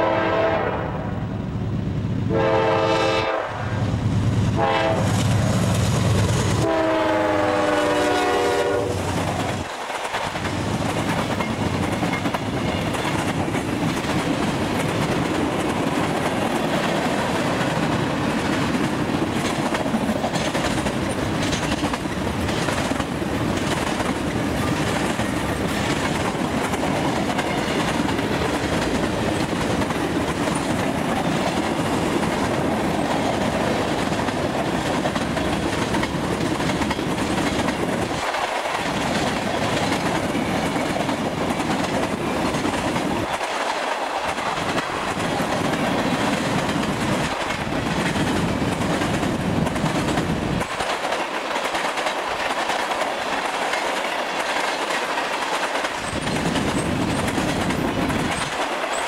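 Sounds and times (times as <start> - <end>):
train wheels clickety-clack: 4.6 - 59.0.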